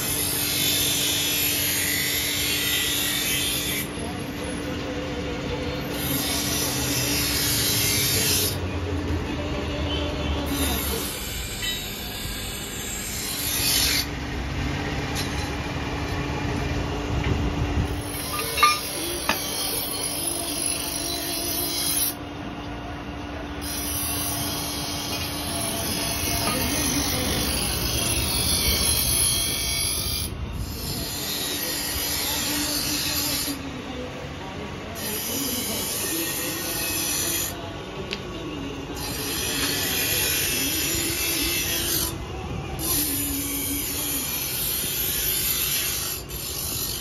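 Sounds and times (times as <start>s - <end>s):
forge blower and machinery hum: 0.0s - 47.0s.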